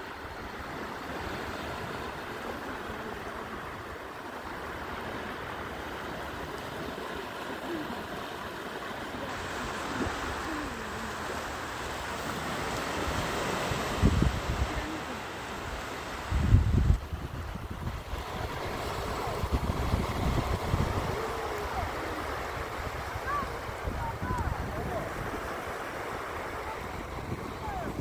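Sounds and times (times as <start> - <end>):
calm sea waves washing onto beach: 0.0 - 28.0.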